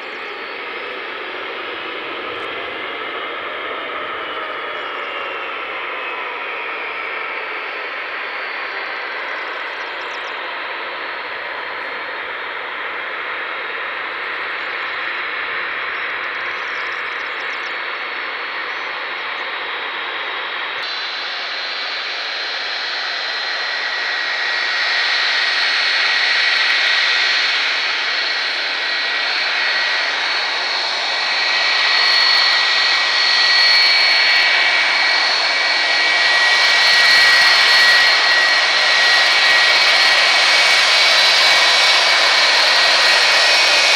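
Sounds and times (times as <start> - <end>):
high engine whine: 0.0 - 43.9
jet engines rushing: 0.0 - 43.9.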